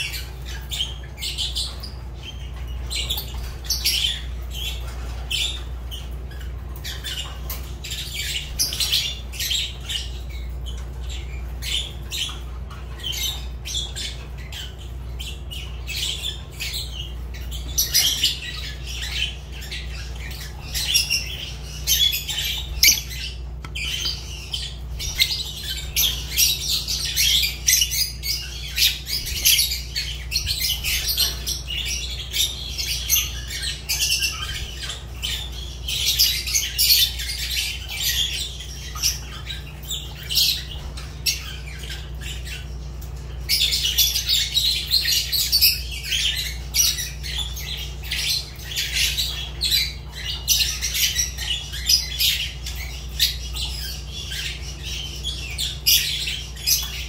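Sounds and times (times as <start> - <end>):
lovebirds chattering and squawking: 0.0 - 57.0.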